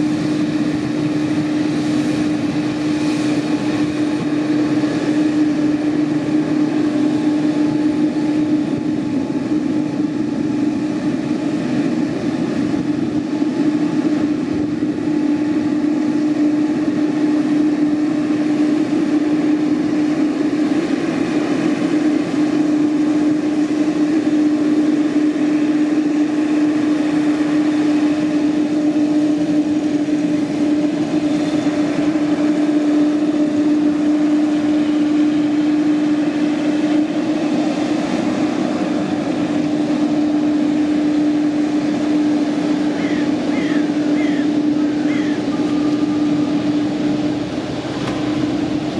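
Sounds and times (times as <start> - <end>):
jet engines idling: 0.0 - 48.9.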